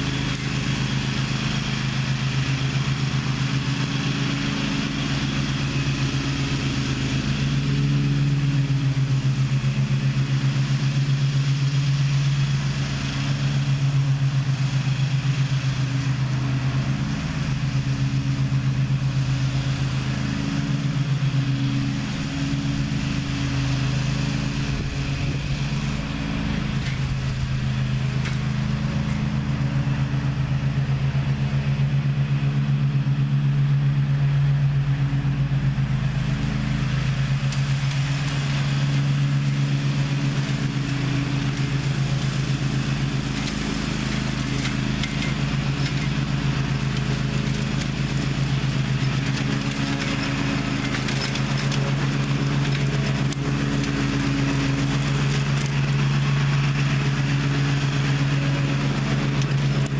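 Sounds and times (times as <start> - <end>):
riding mower engine running: 0.0 - 59.9.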